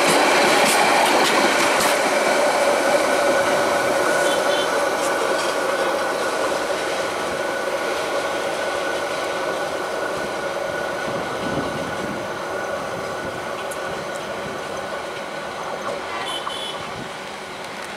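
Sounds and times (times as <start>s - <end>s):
train wheels on rails: 0.0s - 17.9s.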